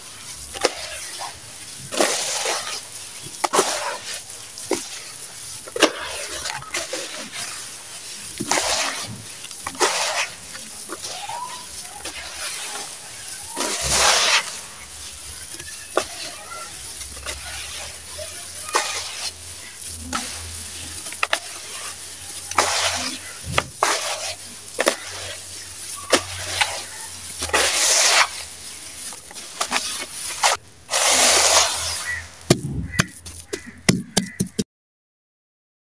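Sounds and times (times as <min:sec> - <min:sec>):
falling grains crackling: 0:00.0 - 0:33.8
sand and cement crunching by hand: 0:00.0 - 0:34.6.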